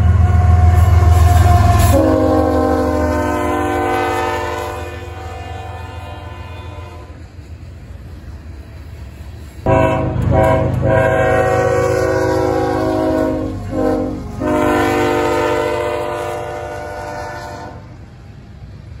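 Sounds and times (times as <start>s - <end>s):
locomotive air horn blasts: 0.0s - 7.3s, 9.7s - 18.0s
passing train rumble: 0.0s - 19.0s.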